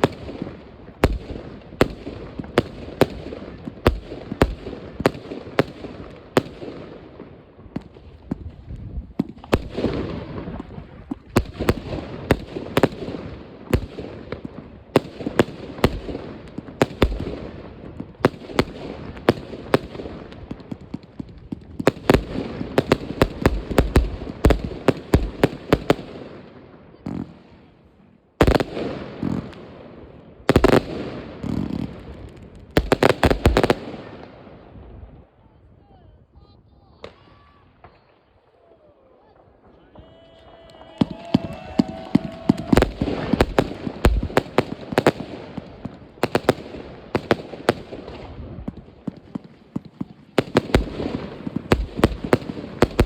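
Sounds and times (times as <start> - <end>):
fireworks bangs and crackling: 0.0 - 35.3, 36.8 - 53.0.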